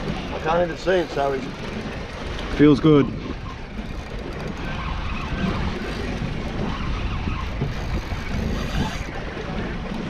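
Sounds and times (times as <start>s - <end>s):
water around boat: 0.0s - 10.0s
wind on microphone: 1.5s - 10.0s.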